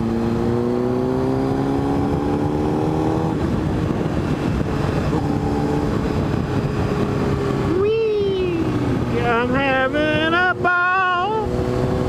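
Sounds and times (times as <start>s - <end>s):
motorcycle engine revving: 0.0s - 12.0s
wind and road noise: 0.0s - 12.0s.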